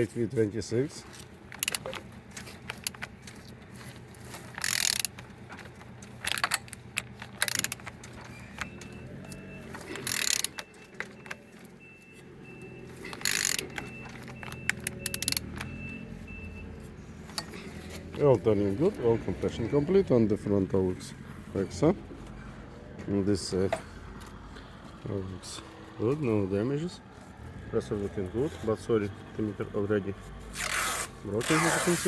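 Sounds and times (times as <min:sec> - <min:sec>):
engine clicks and clunks: 0:00.0 - 0:30.5.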